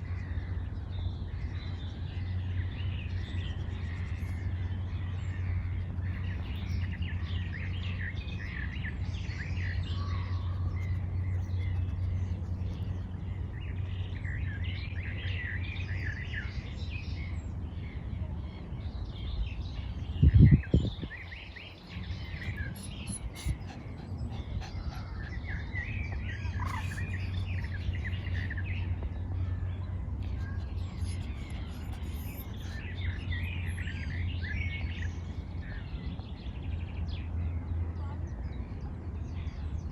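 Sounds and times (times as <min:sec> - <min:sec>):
small birds chirping: 0:00.0 - 0:39.9
steady low rumble: 0:00.0 - 0:39.9.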